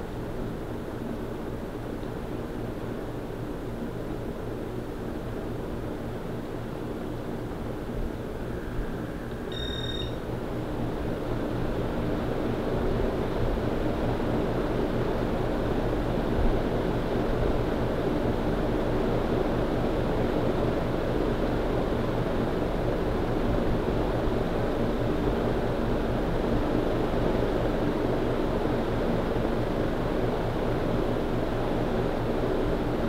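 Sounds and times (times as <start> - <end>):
ceiling fan air whoosh: 0.0 - 33.0
faint motor hum: 0.0 - 33.0.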